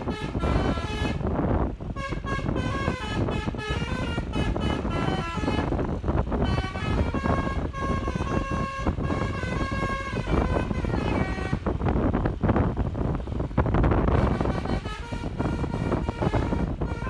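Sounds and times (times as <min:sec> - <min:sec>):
multi-tone bus air horn tune: 0:00.0 - 0:17.0
vehicle and road noise: 0:00.0 - 0:17.0.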